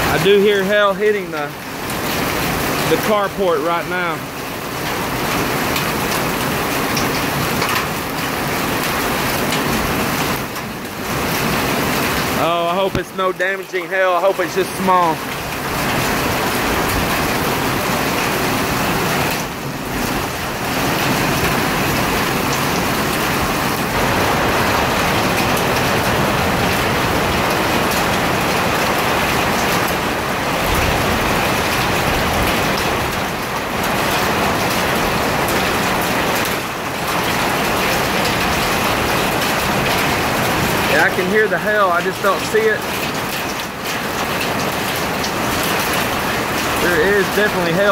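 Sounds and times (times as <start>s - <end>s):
hail and rain on a roof: 0.0s - 47.9s.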